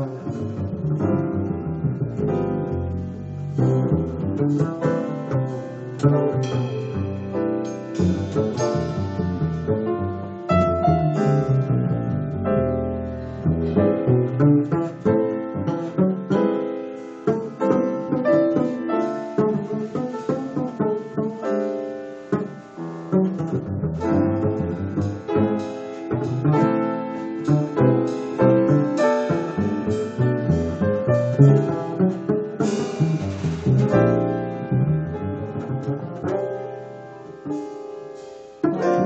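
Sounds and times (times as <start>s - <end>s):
double bass: 0.0s - 39.0s
jazz piano: 0.0s - 39.0s.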